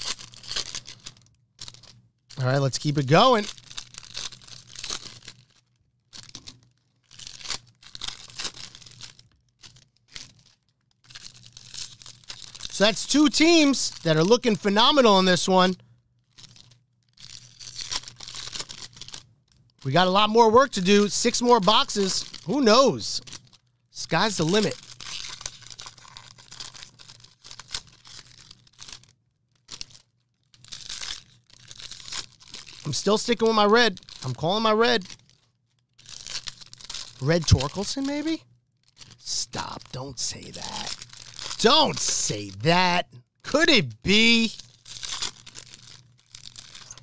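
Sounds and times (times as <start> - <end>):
card-pack wrappers tearing and crinkling: 0.0 - 14.8, 16.3 - 19.2, 19.8 - 47.0.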